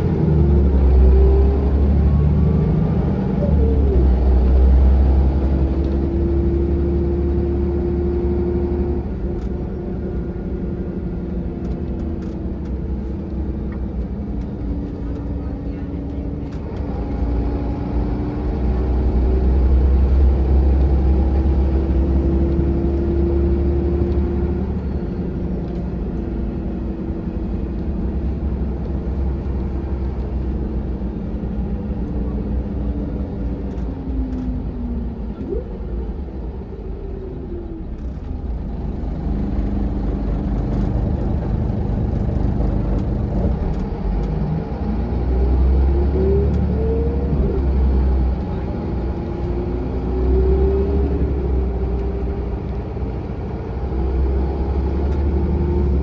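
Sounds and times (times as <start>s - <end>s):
bus diesel engine: 0.0s - 56.0s
road noise: 0.0s - 56.0s.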